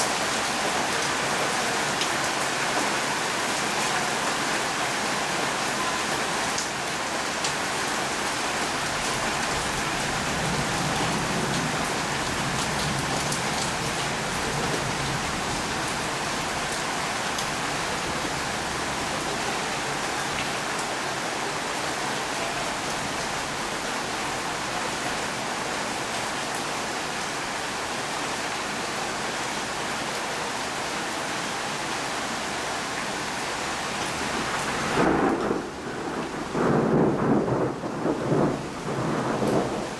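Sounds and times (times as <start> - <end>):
heavy rain hissing: 0.0 - 26.4, 31.2 - 39.9.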